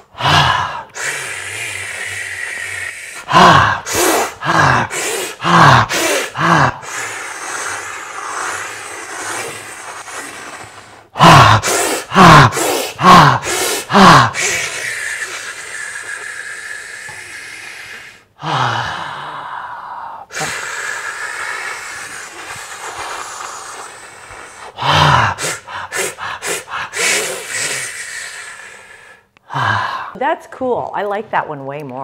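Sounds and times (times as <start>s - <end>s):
long hissing breaths: 0.0s - 30.2s
man breathing forcefully: 0.0s - 30.2s.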